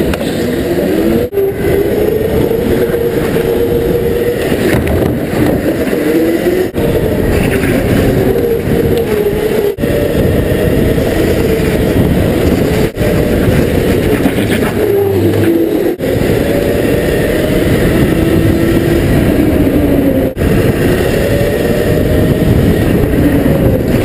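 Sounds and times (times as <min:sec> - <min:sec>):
go-kart engine: 0:00.0 - 0:24.0
steady rush of noise: 0:00.0 - 0:24.0.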